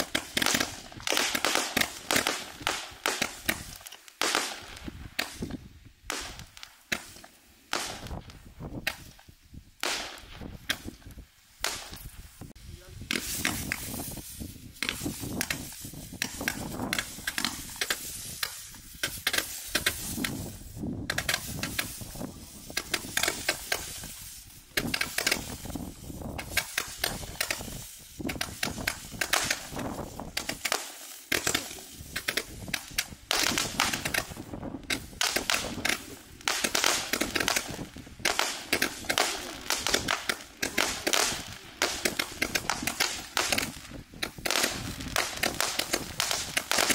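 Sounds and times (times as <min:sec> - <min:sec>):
firework cake popping and crackling: 0:00.0 - 0:46.9.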